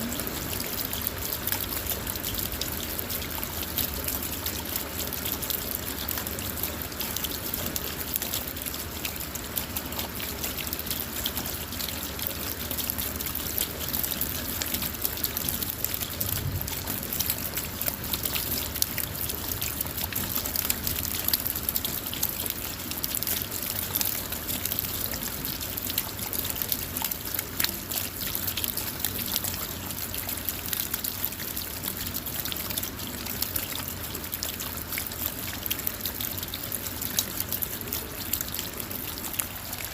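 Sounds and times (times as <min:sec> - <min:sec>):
rain on a car: 0:00.0 - 0:39.9
raindrops ticking on glass: 0:00.0 - 0:39.9.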